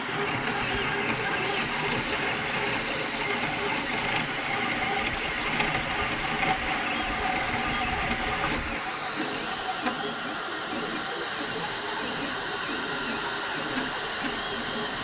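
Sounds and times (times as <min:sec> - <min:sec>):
small motor whirring clatter: 0:00.0 - 0:15.0.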